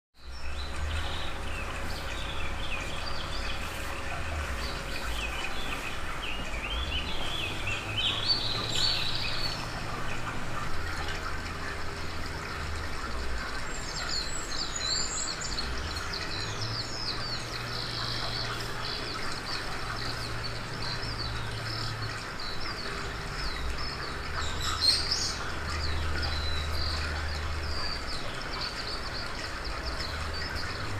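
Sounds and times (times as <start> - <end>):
birds chirping: 0.2 - 30.9
low hum shifting in pitch: 0.2 - 30.9.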